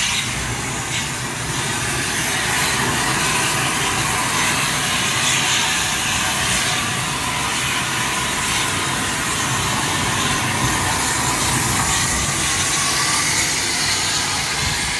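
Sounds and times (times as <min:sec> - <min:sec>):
cutting torch hissing: 0:00.0 - 0:14.9.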